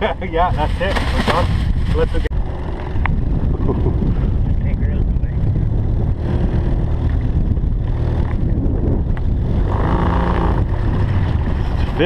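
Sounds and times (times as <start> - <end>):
outboard motor running: 1.6 - 12.0.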